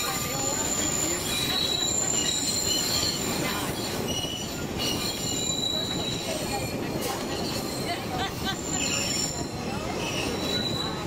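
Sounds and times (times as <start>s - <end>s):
high thin wheel squeals: 0.0s - 11.0s
train wheels rumbling: 0.0s - 11.0s.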